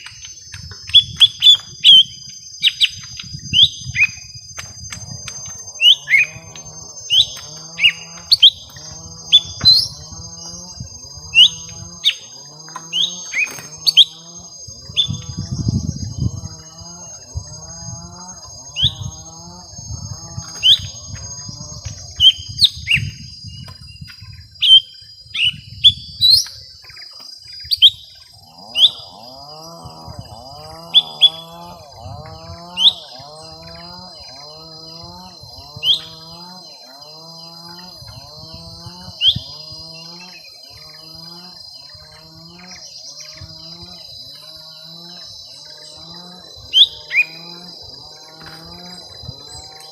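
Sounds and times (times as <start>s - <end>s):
steady high-pitched tones: 0.0s - 24.6s, 27.0s - 49.9s
low repeating bird call: 0.0s - 26.2s, 26.8s - 49.9s
birds calling sharply: 0.0s - 49.9s.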